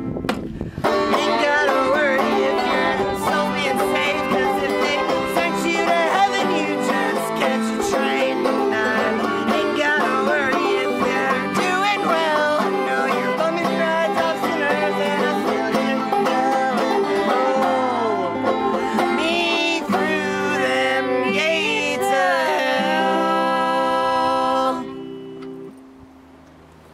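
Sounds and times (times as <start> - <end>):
live acoustic folk music: 0.0 - 26.4.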